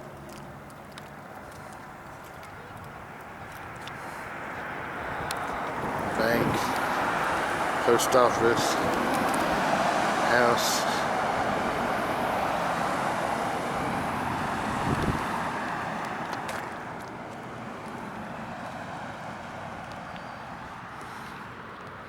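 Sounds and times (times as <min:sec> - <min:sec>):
car engine hum: 0:00.0 - 0:20.7
car tyre and road noise: 0:00.0 - 0:22.0.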